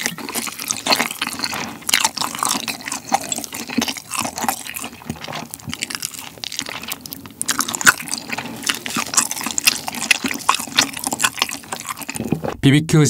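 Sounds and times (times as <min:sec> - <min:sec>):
crunching bites of fried chicken: 0:00.0 - 0:12.6
wet sticky chewing: 0:00.0 - 0:12.6.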